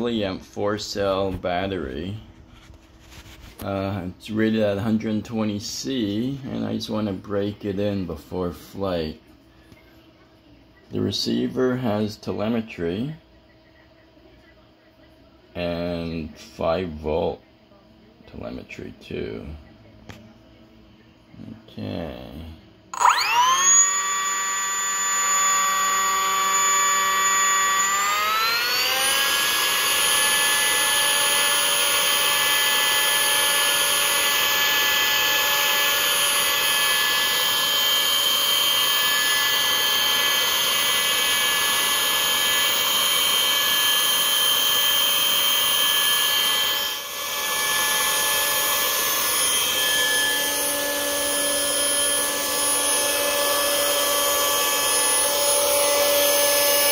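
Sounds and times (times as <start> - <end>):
electric ducted fan whining: 0.0 - 14.7, 15.5 - 56.9.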